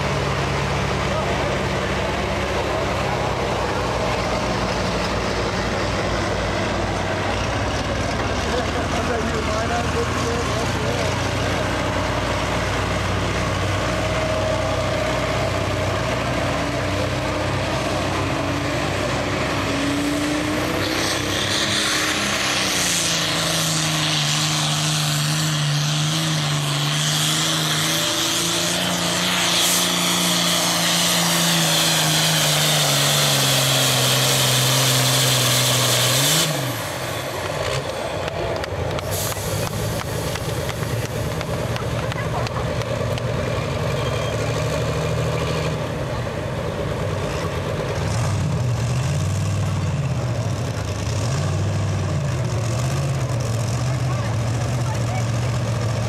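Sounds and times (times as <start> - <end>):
diesel engine running hard: 0.0 - 56.0.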